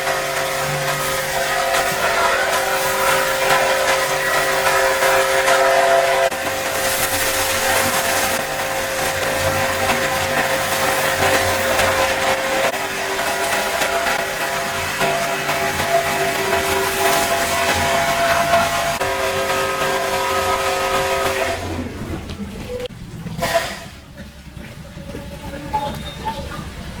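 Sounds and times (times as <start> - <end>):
cleaning machine motor humming: 0.0 - 23.4.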